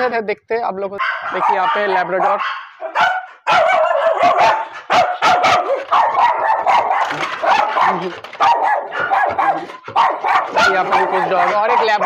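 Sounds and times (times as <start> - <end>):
dogs barking: 1.0 - 12.0.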